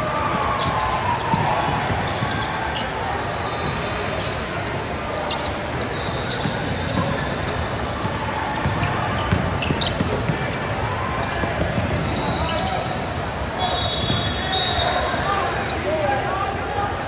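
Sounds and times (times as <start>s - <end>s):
murmur of crowd voices: 0.0s - 17.0s
shoe squeak: 0.2s - 16.2s.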